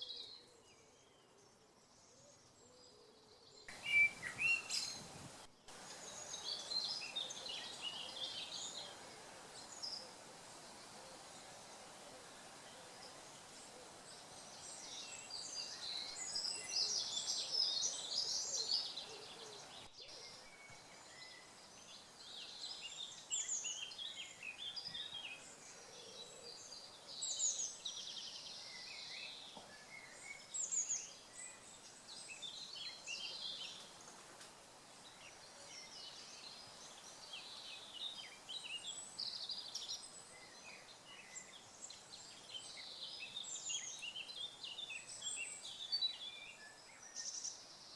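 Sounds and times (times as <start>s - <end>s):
songbirds singing: 0.0s - 47.9s.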